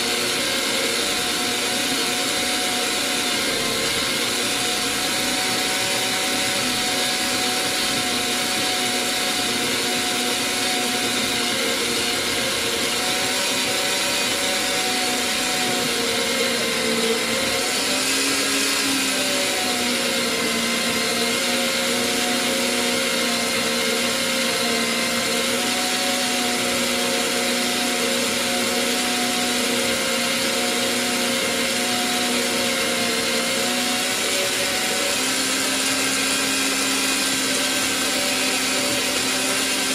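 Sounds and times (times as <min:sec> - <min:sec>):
band saw cutting steel: 0:00.0 - 0:39.9.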